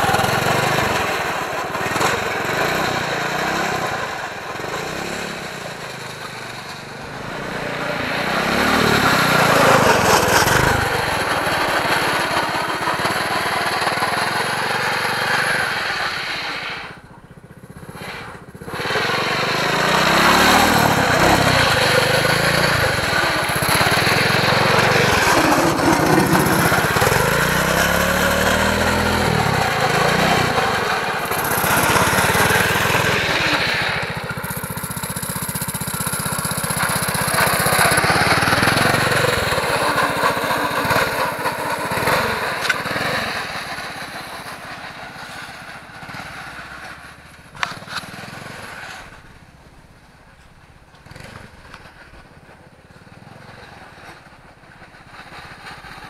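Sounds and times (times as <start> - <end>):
small engine revving: 0.0 - 56.0.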